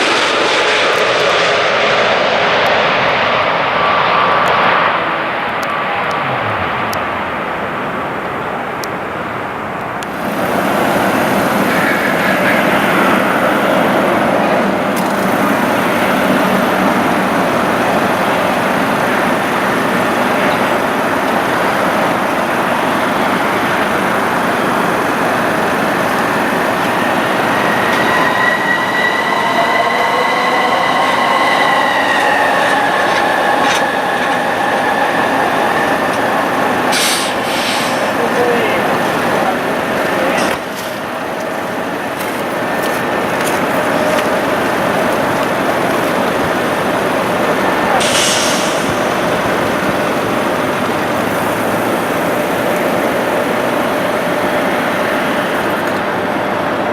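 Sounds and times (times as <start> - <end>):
jet engines whining and roaring: 0.0 - 56.9.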